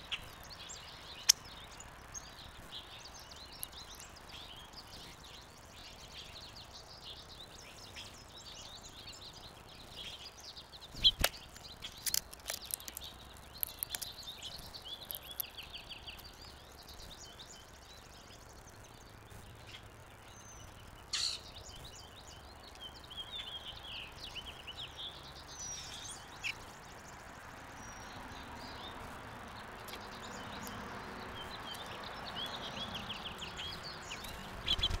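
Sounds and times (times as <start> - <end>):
small birds chirping and trilling: 0.0 - 35.0.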